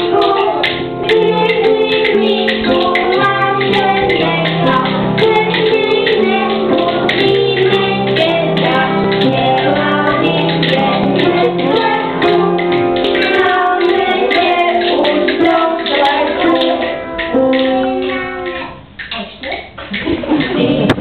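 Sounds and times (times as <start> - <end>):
woman and children singing: 0.0 - 18.2
instrumental accompaniment: 0.0 - 21.0.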